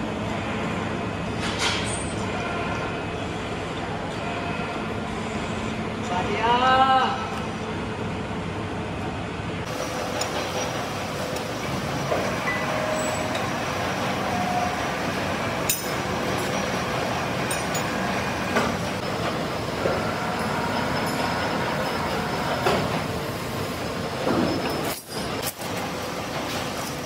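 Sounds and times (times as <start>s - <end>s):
machine shop running noise: 0.0s - 27.0s.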